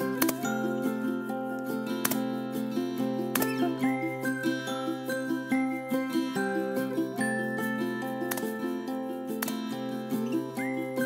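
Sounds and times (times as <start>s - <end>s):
tinkling background music: 0.0s - 11.0s.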